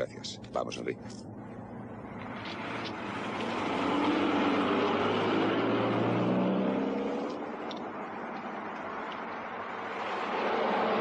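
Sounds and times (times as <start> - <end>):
car engine driving off: 1.7 - 11.0.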